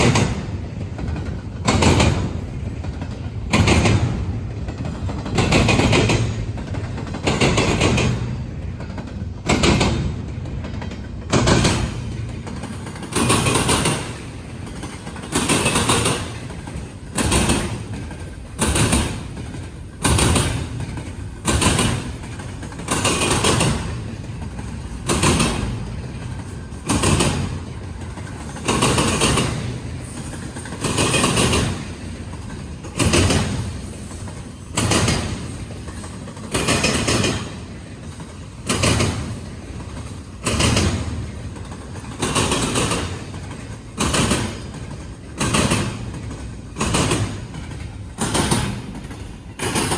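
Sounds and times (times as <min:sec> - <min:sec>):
train rumble: 0:00.0 - 0:49.9
train wheels clacking over track joints: 0:00.0 - 0:49.9.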